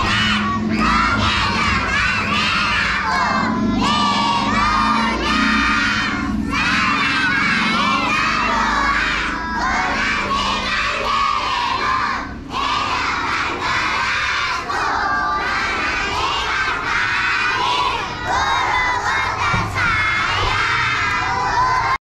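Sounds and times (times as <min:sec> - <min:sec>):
children shouting together: 0:00.0 - 0:22.0.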